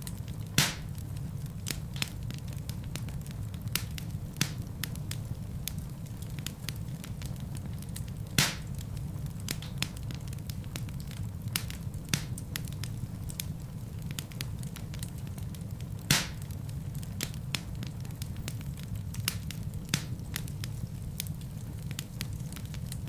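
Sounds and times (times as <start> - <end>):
burning logs crackling and popping: 0.0 - 23.0
fire flames rumbling: 0.0 - 23.0.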